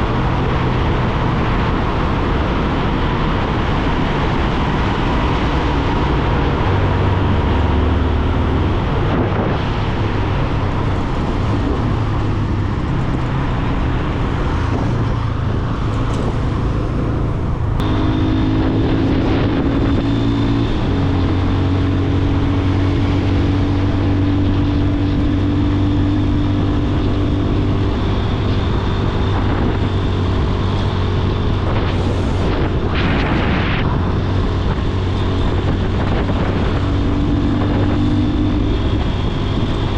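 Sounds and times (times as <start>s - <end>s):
motorcycle engine running: 0.0s - 39.9s
road and air noise: 0.0s - 39.9s.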